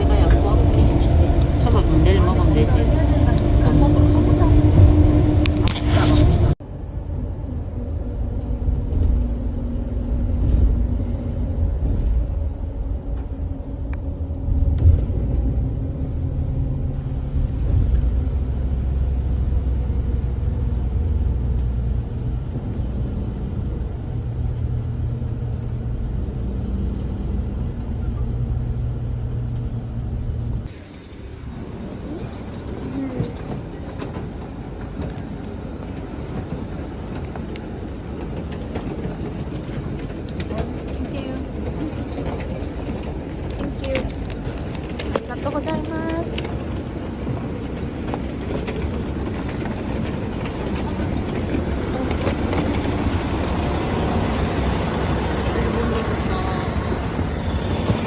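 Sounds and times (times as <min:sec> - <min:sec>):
vehicle rumble and engine hum: 0:00.0 - 0:58.0.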